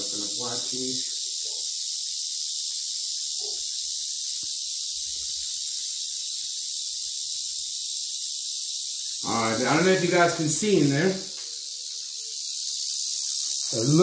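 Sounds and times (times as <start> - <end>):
rattlesnake rattling tail: 0.0 - 14.0.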